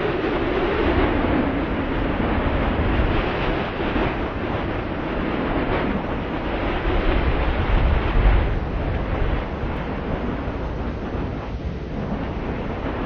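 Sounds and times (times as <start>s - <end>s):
wind blowing: 0.0s - 13.0s
wind gusts buffeting microphone: 0.0s - 13.0s.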